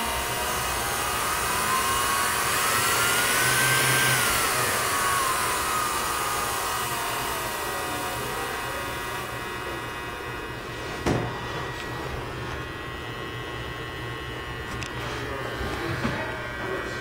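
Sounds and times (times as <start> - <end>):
drill press motor whine: 0.0 - 17.0.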